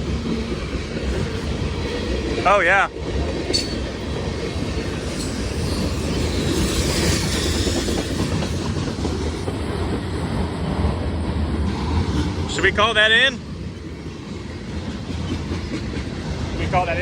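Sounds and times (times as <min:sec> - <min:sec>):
train wheels clacking on rail joints: 0:00.0 - 0:12.6, 0:13.7 - 0:17.0
low train rumble: 0:00.0 - 0:17.0.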